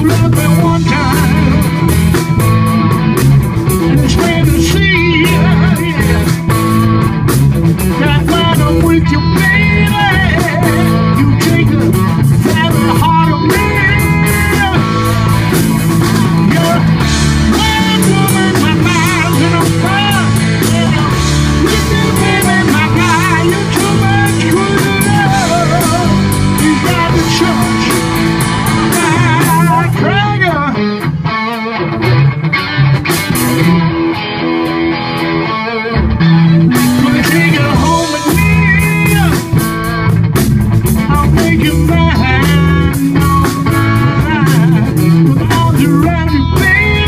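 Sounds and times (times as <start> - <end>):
live rock band playing: 0.0 - 47.0.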